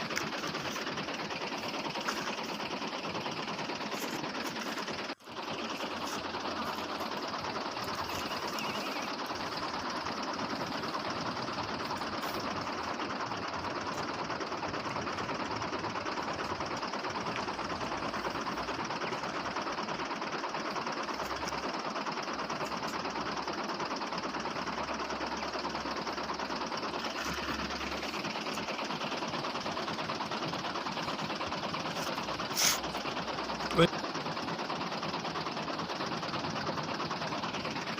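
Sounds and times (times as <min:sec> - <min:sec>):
small motor whirring rattle: 0:00.0 - 0:37.9.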